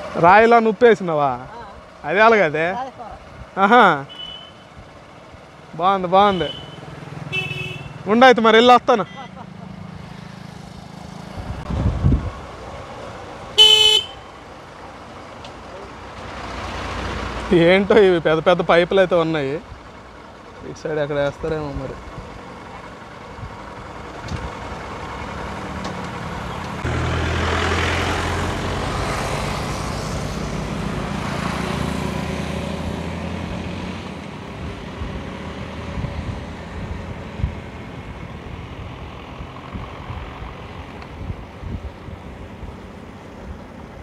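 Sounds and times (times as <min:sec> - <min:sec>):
road and wind noise: 0:00.0 - 0:44.0
vehicle engine passing: 0:05.0 - 0:44.0.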